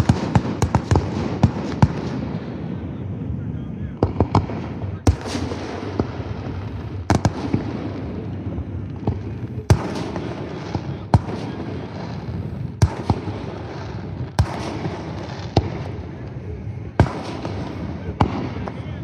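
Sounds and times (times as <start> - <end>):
fireworks crackle and rumble: 0.0 - 19.0.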